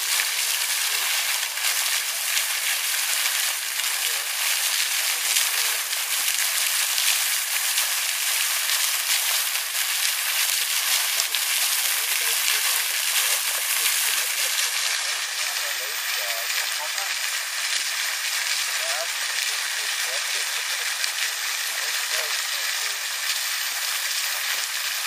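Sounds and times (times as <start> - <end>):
fountain spray hissing onto pond: 0.0 - 25.0.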